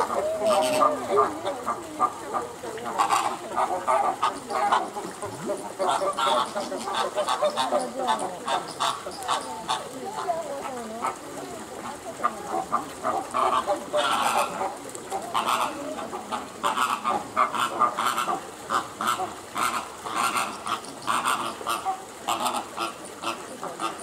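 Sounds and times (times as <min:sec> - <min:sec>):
flamingos honking: 0:00.0 - 0:24.0.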